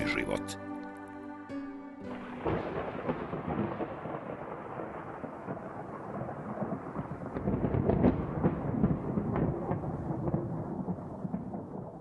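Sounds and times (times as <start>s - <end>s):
steady rain-like hiss: 2.1s - 12.0s
deep rolling thunder rumble: 2.2s - 12.0s.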